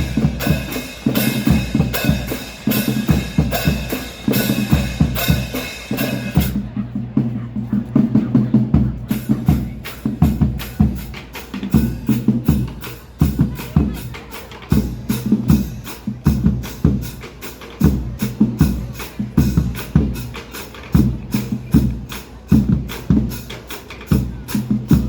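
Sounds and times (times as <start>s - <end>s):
cymbals: 0.0s - 25.0s
snare and bass drums: 0.0s - 25.0s.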